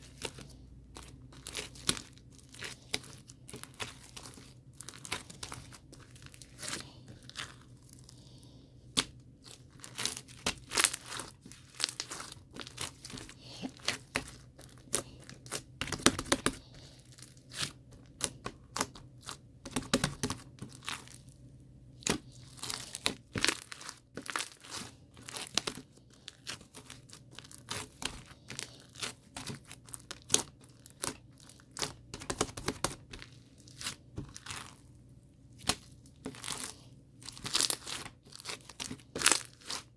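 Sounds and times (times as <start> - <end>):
crinkling and crackling: 0.0 - 39.9.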